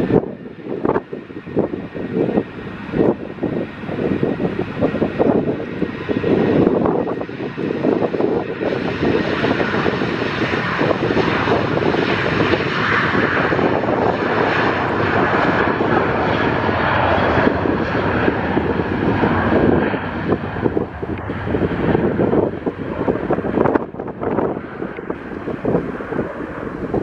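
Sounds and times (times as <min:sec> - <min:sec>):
airliner engines roaring: 0:00.0 - 0:27.0.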